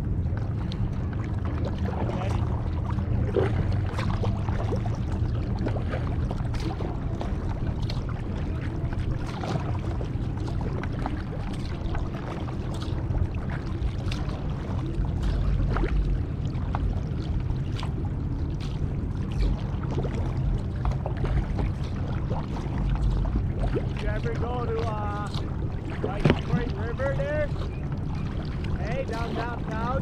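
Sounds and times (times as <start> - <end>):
kayak paddles splashing: 0.0 - 30.0
low rumble: 0.0 - 30.0.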